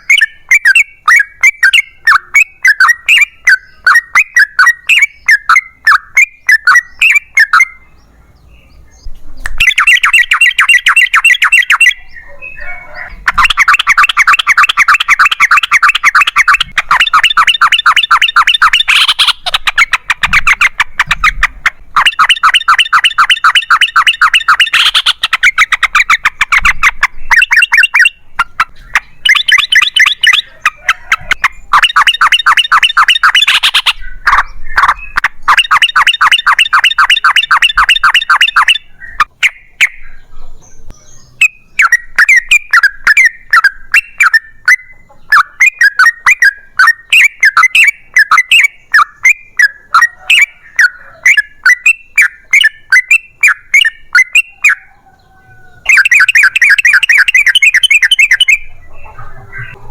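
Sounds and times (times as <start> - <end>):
bird chirps: 0.0 - 59.9
bulbul chattering song: 0.0 - 59.9.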